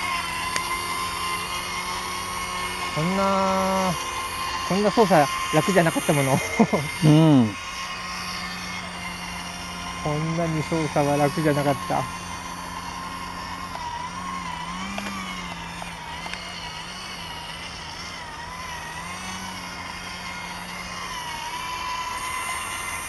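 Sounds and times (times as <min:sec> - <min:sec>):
electric motor and propeller whining: 0:00.0 - 0:23.0.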